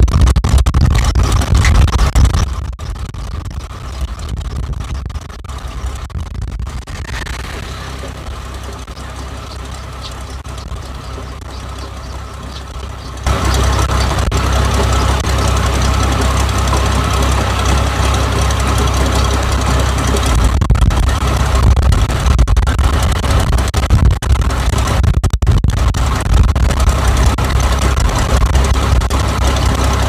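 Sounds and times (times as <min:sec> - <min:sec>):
combine harvester engine running: 0:00.9 - 0:30.0.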